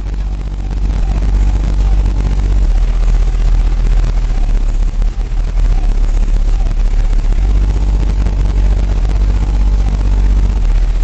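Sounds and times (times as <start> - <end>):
deep subwoofer bass: 0.0 - 11.0.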